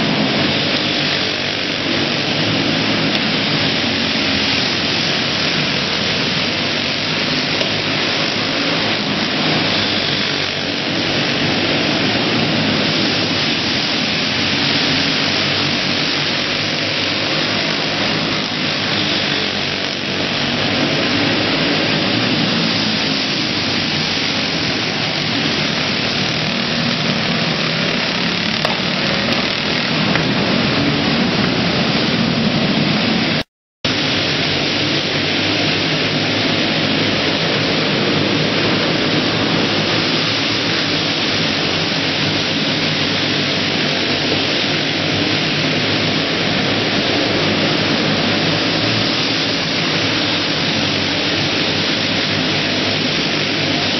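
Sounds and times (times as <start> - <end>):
go-kart engines racing: 0.0 - 53.9.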